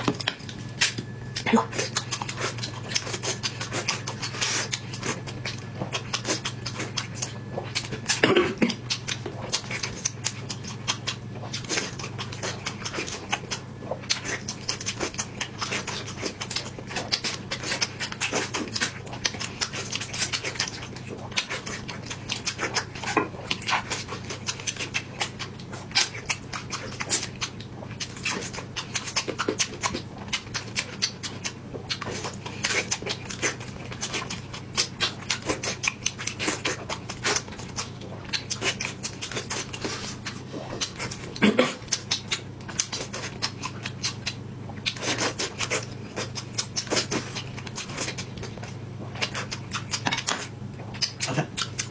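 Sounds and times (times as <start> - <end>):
person chewing wetly: 0.0 - 51.9.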